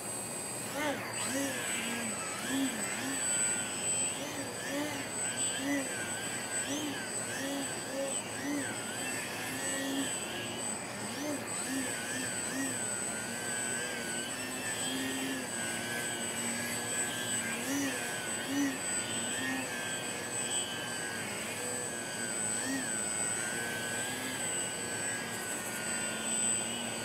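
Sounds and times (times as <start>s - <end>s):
electric motor and propeller whining: 0.0s - 27.0s.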